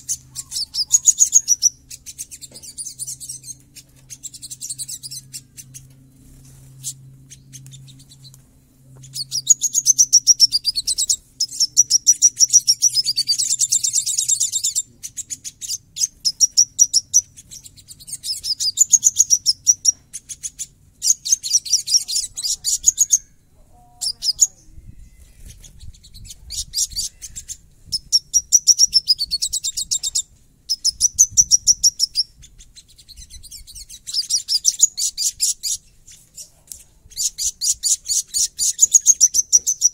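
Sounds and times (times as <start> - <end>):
sunbird singing harsh chatter: 0.0 - 39.9.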